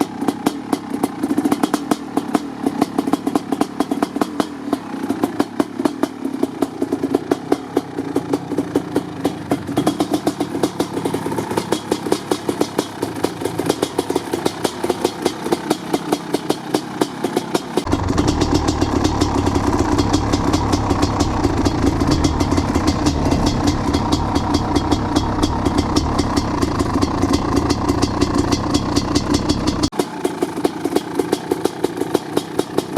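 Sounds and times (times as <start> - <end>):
two-stroke motorcycle engine idling: 0.0 - 32.9.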